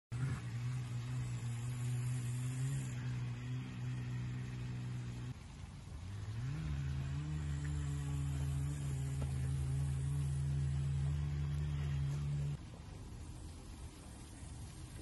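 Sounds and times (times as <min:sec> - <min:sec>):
low engine-like hum: 0:00.1 - 0:15.0.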